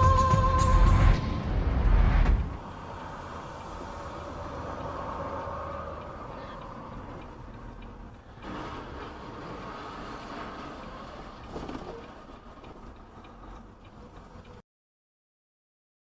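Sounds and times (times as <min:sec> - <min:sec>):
vehicle driving rumble: 0:00.0 - 0:14.6.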